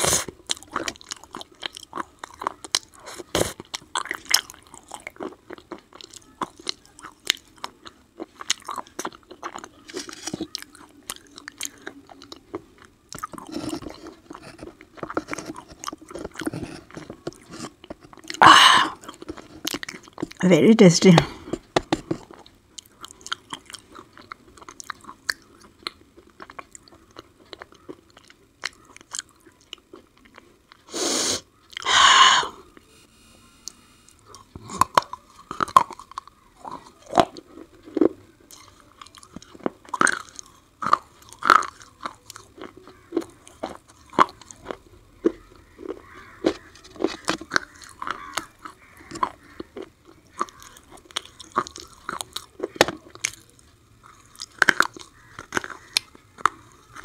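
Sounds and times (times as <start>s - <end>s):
sharp crunches of chewing: 0.0s - 20.4s, 21.4s - 32.8s, 34.2s - 57.0s.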